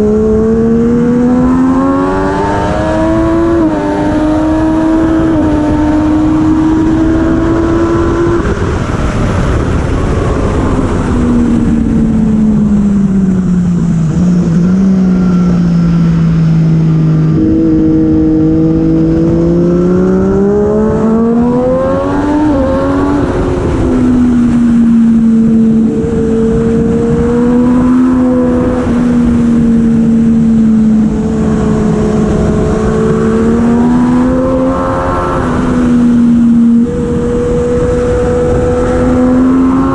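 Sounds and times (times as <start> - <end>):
heavy wind rush: 0.0 - 39.9
motorcycle engine at racing speed: 0.0 - 39.9.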